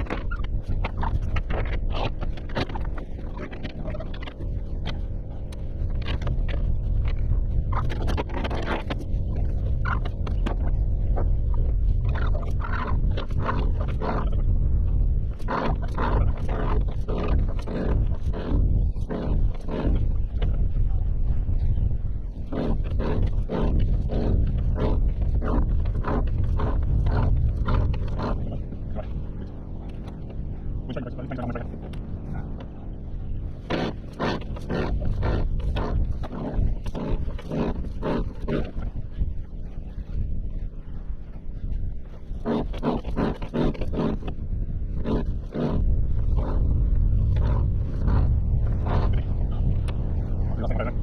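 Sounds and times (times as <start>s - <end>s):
wind rumbling on microphone: 0.0s - 51.0s.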